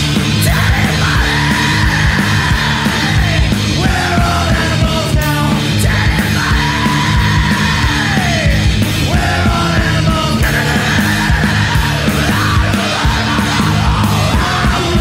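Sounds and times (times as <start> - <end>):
distorted electric guitar: 0.0 - 15.0
driving drum kit: 0.0 - 15.0.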